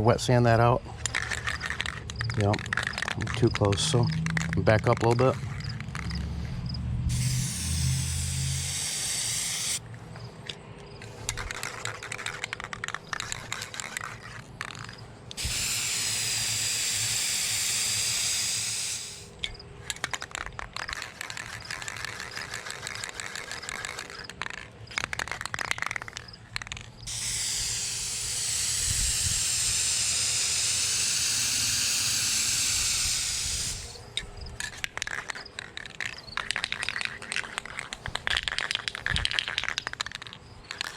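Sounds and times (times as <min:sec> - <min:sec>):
spray paint can hissing: 0:00.9 - 0:06.2, 0:07.1 - 0:09.8, 0:11.1 - 0:40.9.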